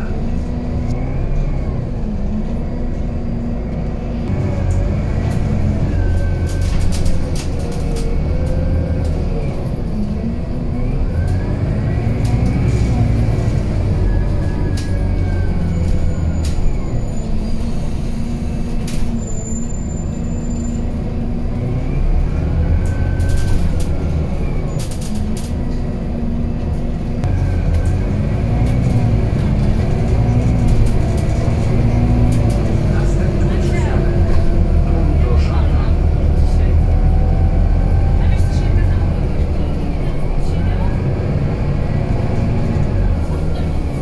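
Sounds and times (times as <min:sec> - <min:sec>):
bus engine deep hum: 0:00.0 - 0:44.0.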